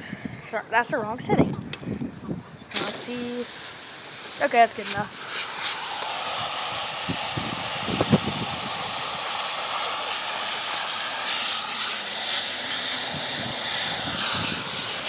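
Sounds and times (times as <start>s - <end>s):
hose nozzle spraying water: 2.7s - 15.0s.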